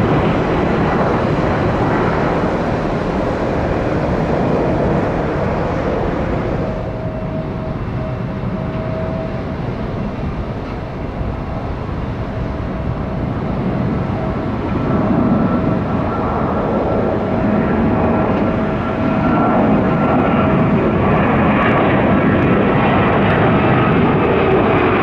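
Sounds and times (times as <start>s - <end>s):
jet engine rumble: 0.0s - 25.0s
thin jet engine whine: 0.0s - 25.0s.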